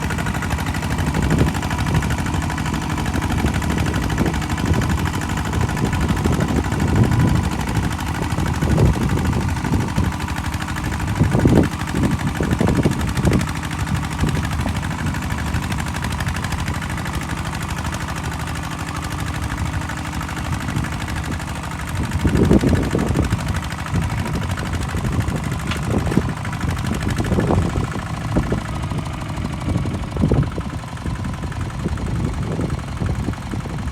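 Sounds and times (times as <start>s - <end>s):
diesel engine knocking chug: 0.0s - 33.9s.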